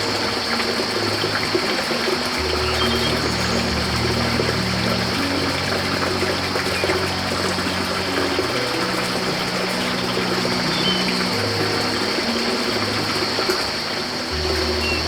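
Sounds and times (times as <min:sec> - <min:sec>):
running water: 0:00.0 - 0:15.0
soft background music: 0:00.0 - 0:15.0.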